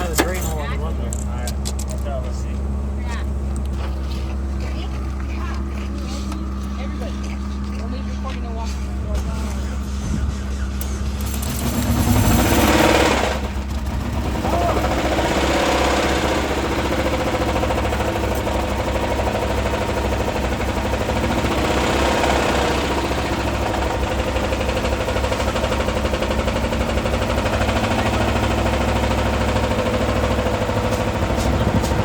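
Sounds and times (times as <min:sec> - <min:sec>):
engine idling with rod knock: 0:00.0 - 0:32.0.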